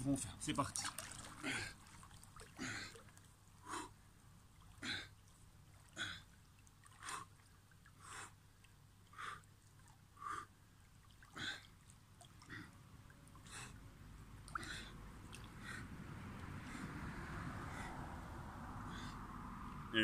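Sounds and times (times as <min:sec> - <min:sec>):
arms moving through water: 0:00.0 - 0:20.0.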